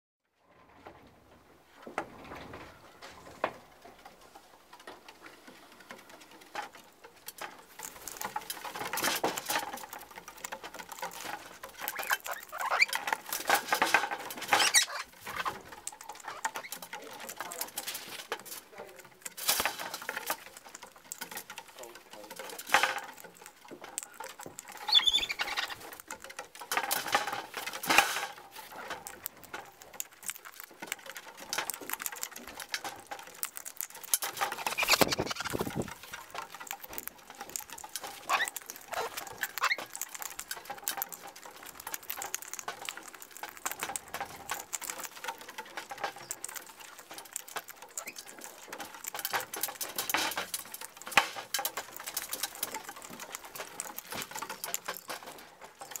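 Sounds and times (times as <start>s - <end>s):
parrots cracking seeds: 4.8s - 56.0s.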